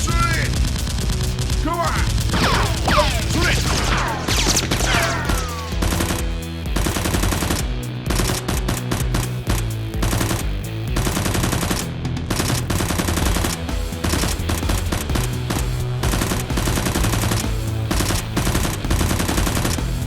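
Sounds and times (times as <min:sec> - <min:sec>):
background music: 0:00.0 - 0:20.0
automatic gunfire: 0:02.3 - 0:20.0.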